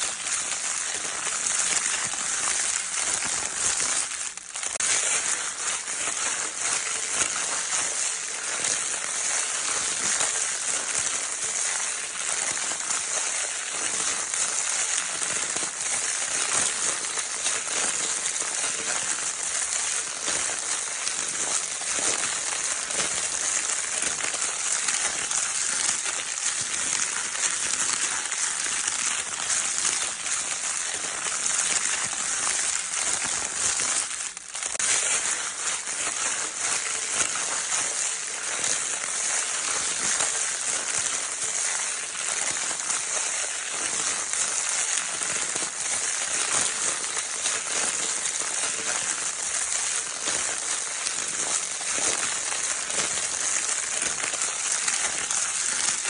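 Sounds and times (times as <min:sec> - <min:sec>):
crinkle paper crackling: 0:00.0 - 0:56.0.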